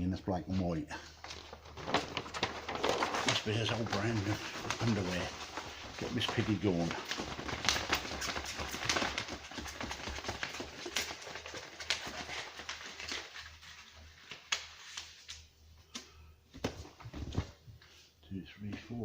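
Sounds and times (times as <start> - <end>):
cards rustling and tapping: 1.2 - 17.6.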